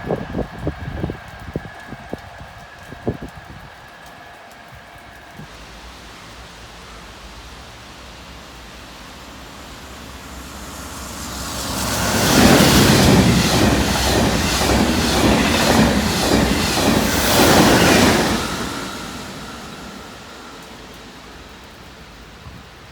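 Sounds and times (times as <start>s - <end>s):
train passing at speed: 0.0s - 22.9s.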